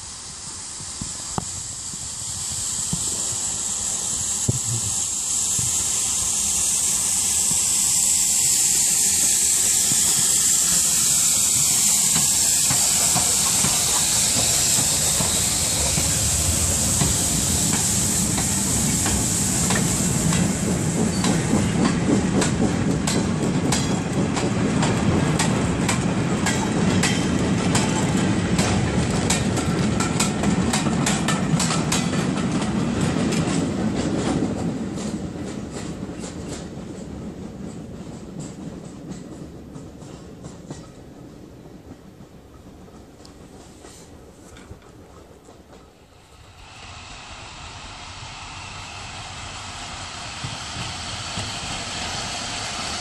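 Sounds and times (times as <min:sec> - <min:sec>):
steam locomotive hissing: 0:00.0 - 0:53.0.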